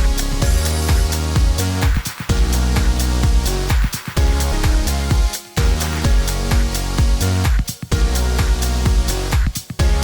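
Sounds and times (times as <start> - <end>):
bass line: 0.0 - 10.0
electronic dance music: 0.0 - 10.0
kick drum beat: 0.0 - 10.0.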